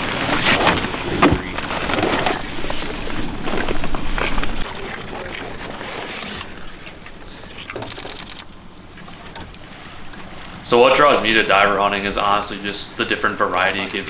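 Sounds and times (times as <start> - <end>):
water: 0.0 - 14.0
wind: 0.0 - 14.0.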